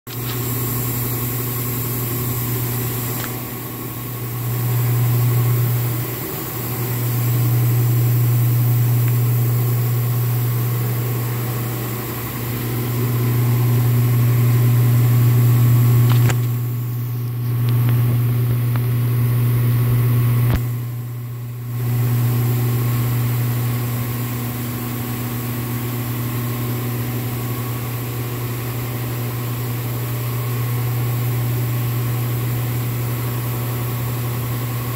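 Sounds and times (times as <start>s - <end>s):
ventilation fans humming: 0.1s - 34.9s.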